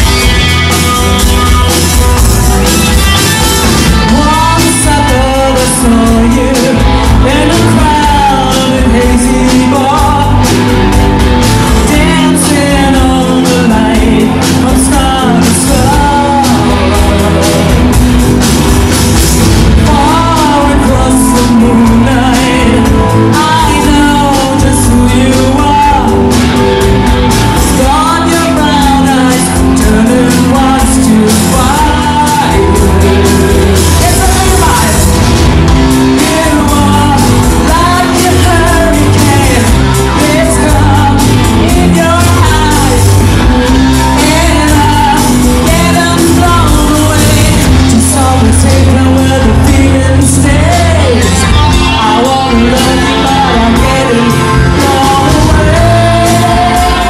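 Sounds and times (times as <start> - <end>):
drums: 0.0 - 57.0
electric guitars: 0.0 - 57.0
person singing: 0.0 - 57.0.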